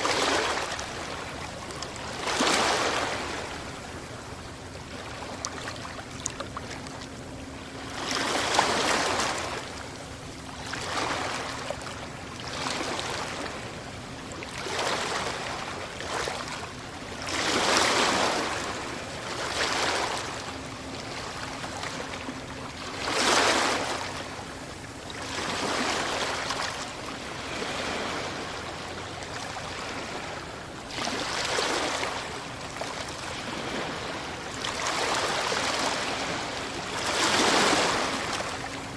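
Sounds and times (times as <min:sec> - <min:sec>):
small waves breaking on shore: 0:00.0 - 0:38.9.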